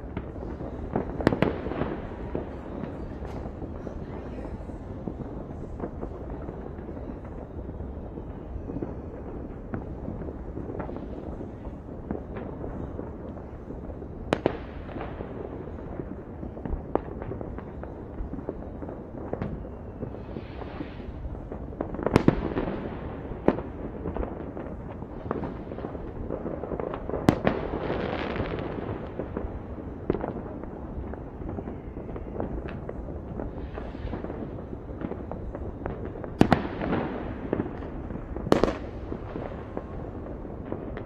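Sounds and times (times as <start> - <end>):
crackling hiss: 0.0 - 41.0
low rumble of distant fireworks: 0.0 - 41.0.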